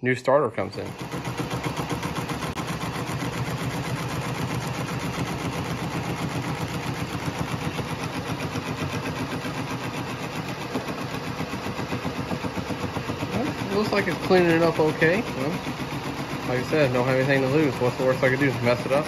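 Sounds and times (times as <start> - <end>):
metal lathe running: 0.6 - 19.0.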